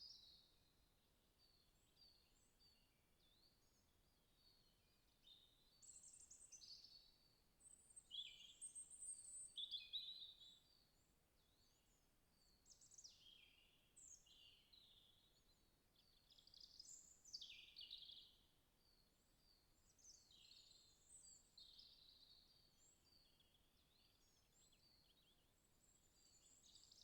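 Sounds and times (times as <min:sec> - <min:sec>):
songbirds singing: 0:00.0 - 0:27.0.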